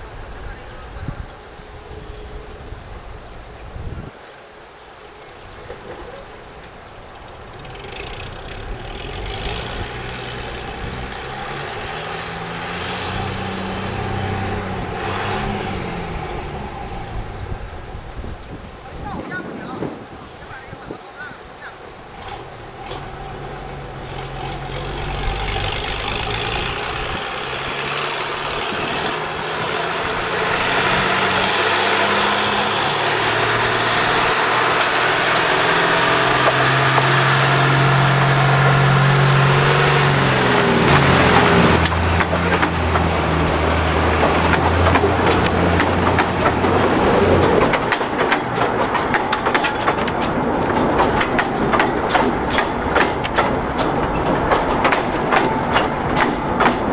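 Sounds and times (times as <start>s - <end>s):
locomotive engine passing: 0.0s - 56.9s
wagons clacking over rail joints: 0.0s - 56.9s.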